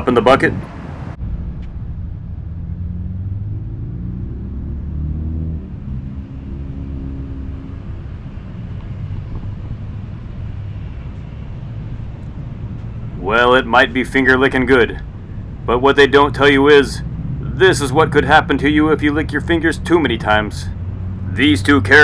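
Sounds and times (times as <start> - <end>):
traffic rumble: 0.0 - 22.0
vehicle engine passing: 0.0 - 22.0.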